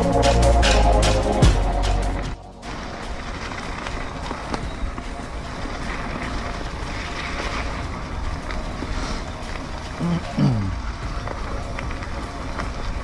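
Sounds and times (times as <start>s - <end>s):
wind and tyre noise: 0.0s - 13.0s.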